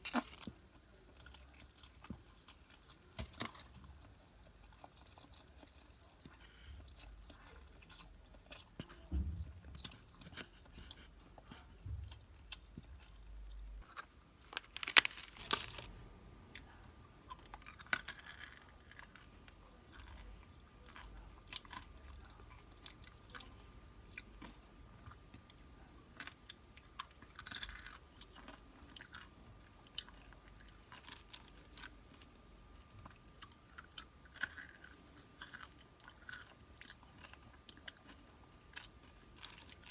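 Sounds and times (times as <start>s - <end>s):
chewing and crunching snacks: 0.0s - 15.9s, 16.5s - 39.9s.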